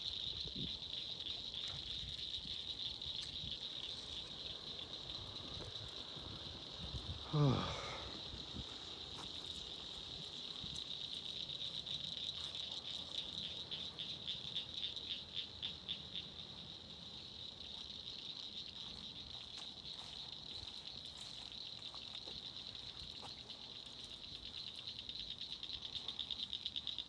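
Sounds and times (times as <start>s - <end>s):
insects high trill: 0.0s - 27.0s
pulsing insect call: 0.0s - 27.0s.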